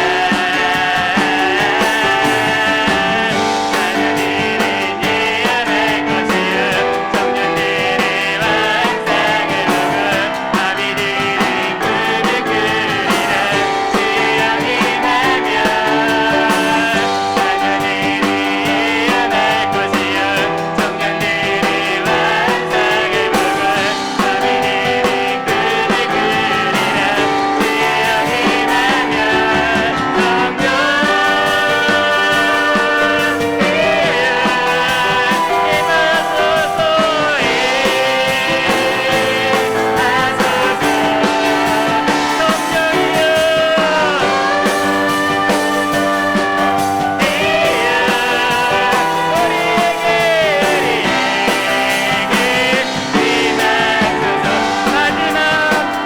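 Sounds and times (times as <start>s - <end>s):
live praise band playing: 0.0s - 56.0s.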